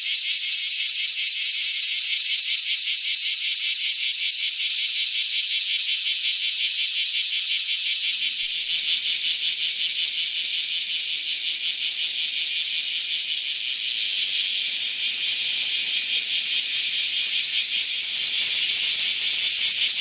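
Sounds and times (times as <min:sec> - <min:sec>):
cicada buzzing: 0:00.0 - 0:20.0.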